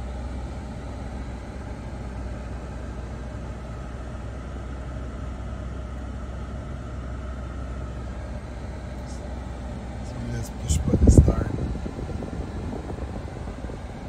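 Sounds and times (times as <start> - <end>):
car cabin hum with hiss: 0.0 - 14.0.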